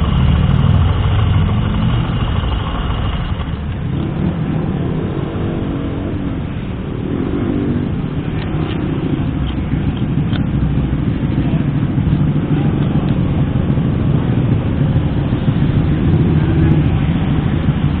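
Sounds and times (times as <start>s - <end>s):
road and wind noise: 0.0s - 18.0s
vehicle engine drone: 0.0s - 18.0s.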